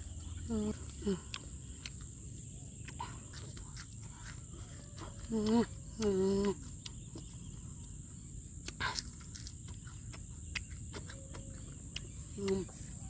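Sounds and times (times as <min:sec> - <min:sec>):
insects buzzing: 0:00.0 - 0:13.0
woman humming while chewing: 0:00.1 - 0:02.0, 0:02.8 - 0:07.6, 0:08.6 - 0:13.0.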